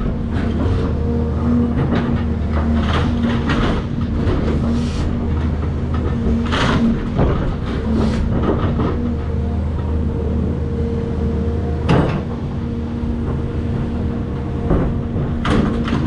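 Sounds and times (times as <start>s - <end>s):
demolition debris crashing and scraping: 0.0s - 12.4s, 13.2s - 16.0s
excavator diesel engine running: 0.0s - 16.0s.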